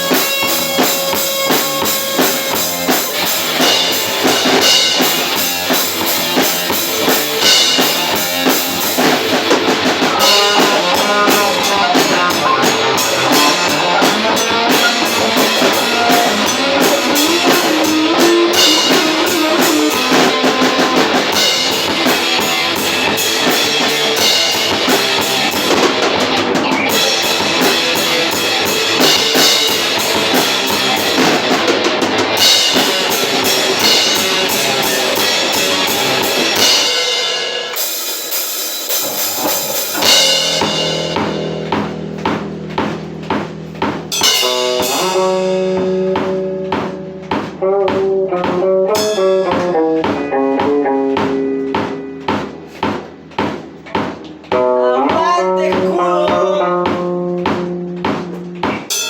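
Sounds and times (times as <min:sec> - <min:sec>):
kick drum and cymbals: 0:00.0 - 0:59.0
metal band playing: 0:00.0 - 0:59.0.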